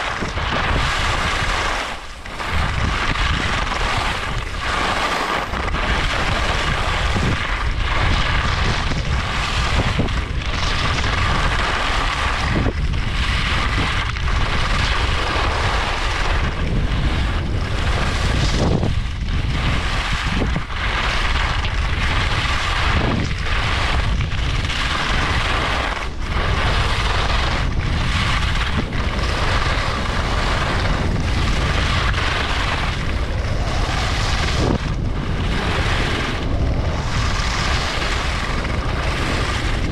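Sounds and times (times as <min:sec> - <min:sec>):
skis scraping over snow: 0:00.0 - 0:39.9
wind rushing over microphone: 0:00.0 - 0:39.9.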